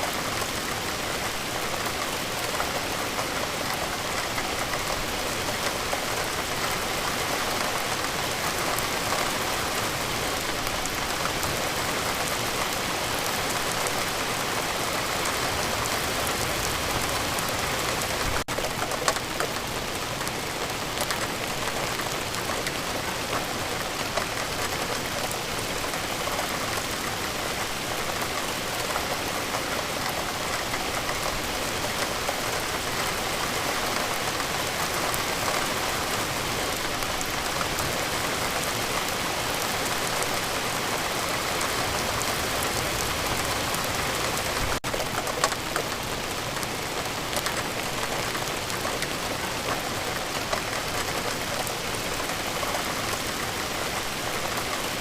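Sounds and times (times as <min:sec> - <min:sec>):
steady rain hiss: 0:00.0 - 0:55.0
raindrops ticking close by: 0:00.1 - 0:55.0.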